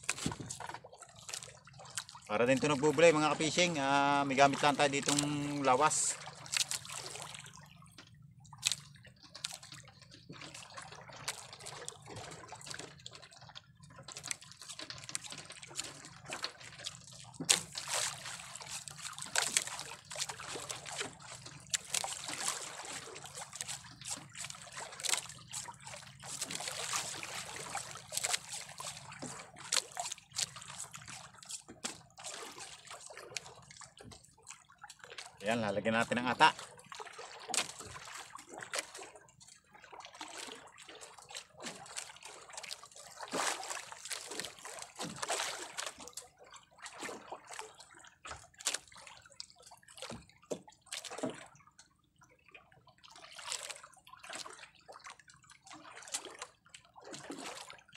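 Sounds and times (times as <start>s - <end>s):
small splashes and drips: 0.0s - 57.9s
water sloshing against boat: 0.0s - 57.9s.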